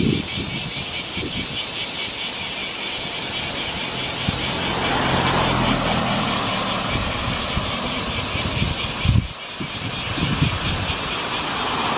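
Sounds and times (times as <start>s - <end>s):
high-pitched pulsing buzz: 0.0s - 11.9s
car passing: 2.2s - 11.9s.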